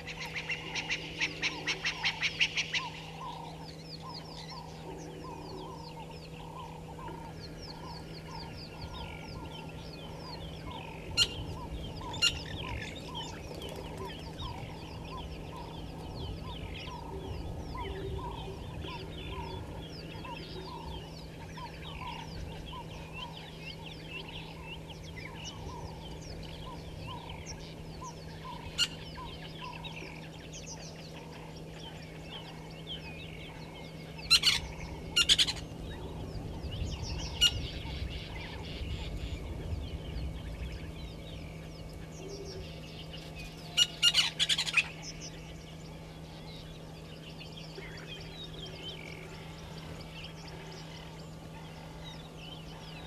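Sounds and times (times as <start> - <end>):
birds chirping and calling: 0.0 - 53.0
low bird call: 0.0 - 53.0
steady low hum: 0.0 - 53.0.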